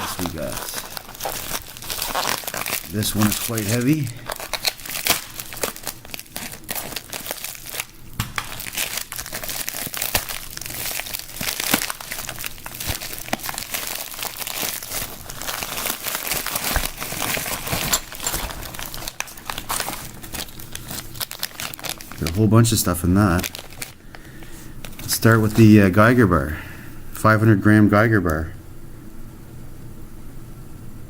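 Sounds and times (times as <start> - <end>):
packaging tearing: 0.0 - 26.2
packaging crinkling and rustling: 0.0 - 26.4.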